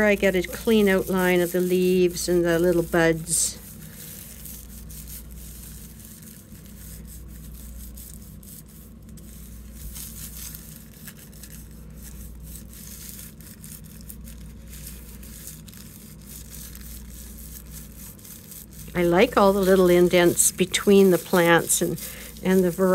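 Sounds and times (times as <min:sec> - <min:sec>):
steady low hum: 0:00.0 - 0:22.9
tissue paper rustling and crinkling: 0:00.0 - 0:22.9.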